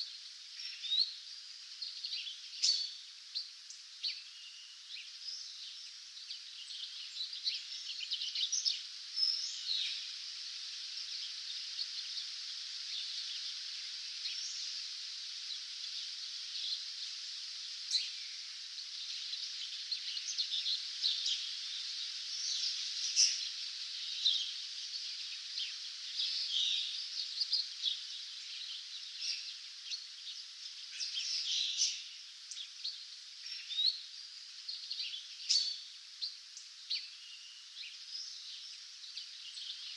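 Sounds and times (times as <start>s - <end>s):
many songbirds singing: 0.0s - 39.9s.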